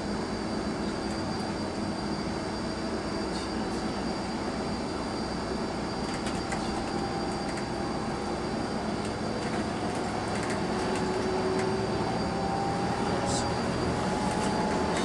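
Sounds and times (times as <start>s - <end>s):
engine and road noise in coach: 0.0s - 15.0s.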